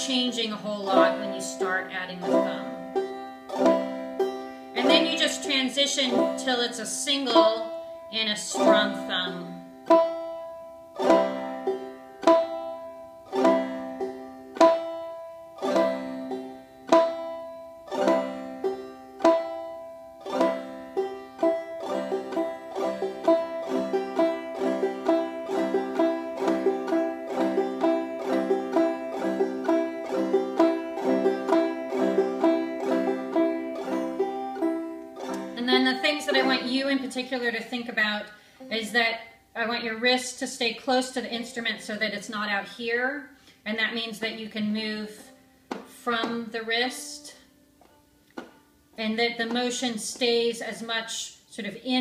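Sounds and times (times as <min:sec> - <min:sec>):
banjo strumming: 0:00.0 - 0:42.6, 0:43.4 - 0:51.4.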